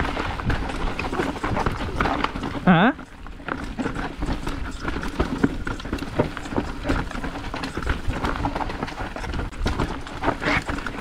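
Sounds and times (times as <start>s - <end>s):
bike clattering and rattling: 0.0s - 11.0s.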